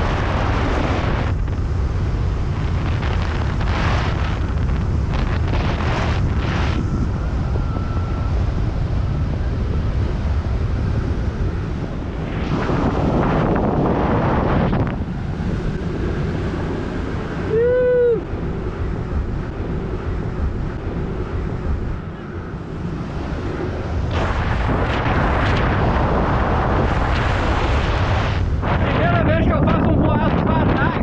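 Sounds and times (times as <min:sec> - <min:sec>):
strong wind on microphone: 0:00.0 - 0:31.0.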